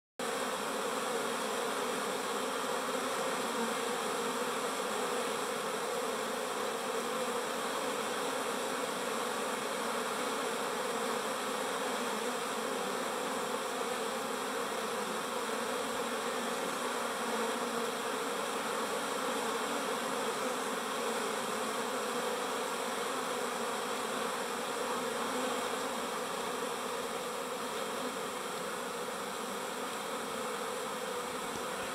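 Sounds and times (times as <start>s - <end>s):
honeybees buzzing: 0.2s - 31.9s.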